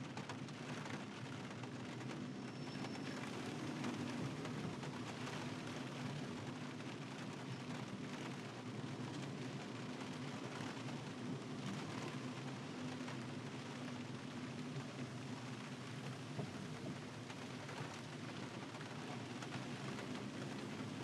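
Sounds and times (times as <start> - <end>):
tyres on wet road: 0.0 - 21.0
rain hissing: 0.2 - 21.0.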